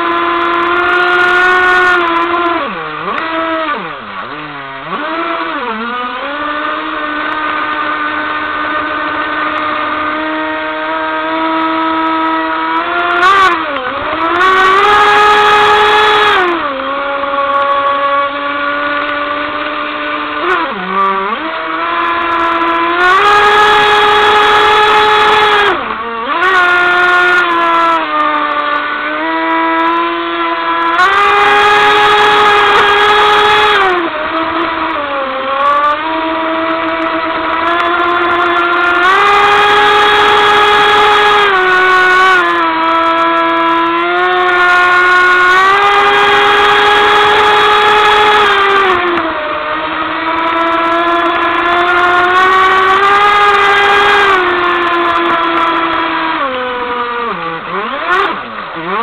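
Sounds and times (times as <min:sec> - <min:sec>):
high-pitched electric motor whine: 0:00.0 - 0:59.0
water and spray rushing: 0:00.0 - 0:59.0.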